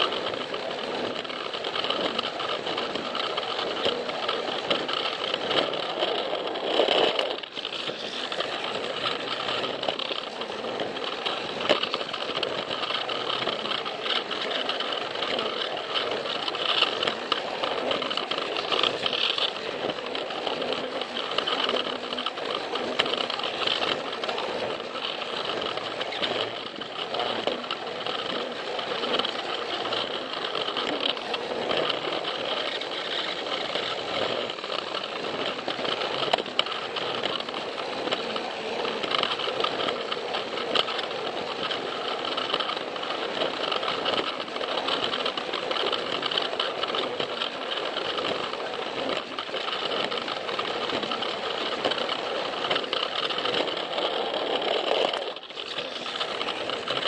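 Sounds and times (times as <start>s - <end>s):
plastic wheels clattering on track: 0.0s - 57.0s
toy train motor whirring: 0.0s - 57.0s.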